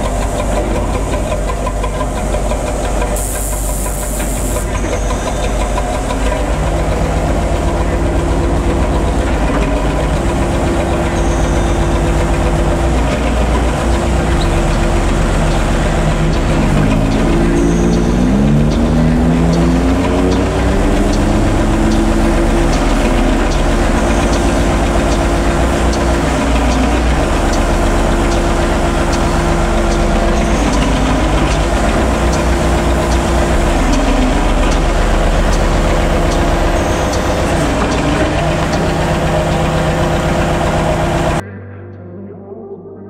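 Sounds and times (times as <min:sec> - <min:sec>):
truck diesel engine running: 0:00.0 - 0:41.4.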